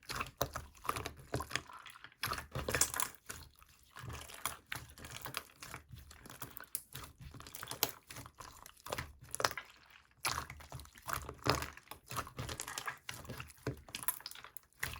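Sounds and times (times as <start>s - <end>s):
slime being squished: 0.0s - 14.9s.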